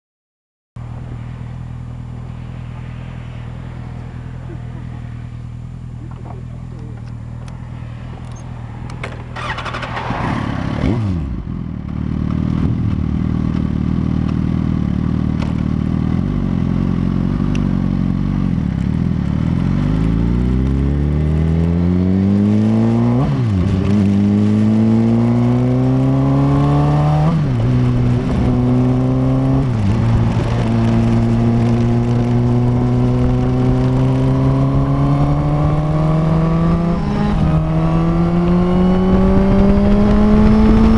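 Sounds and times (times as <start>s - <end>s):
motorcycle engine accelerating: 0.8s - 40.9s.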